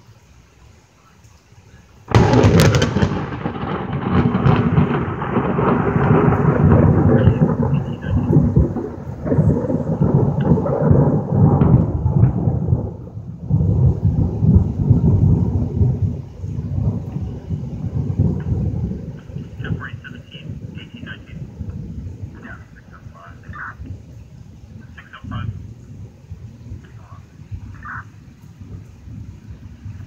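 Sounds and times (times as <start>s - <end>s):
rolling thunder rumble: 2.0s - 30.0s
thunderclap crack: 2.1s - 30.0s.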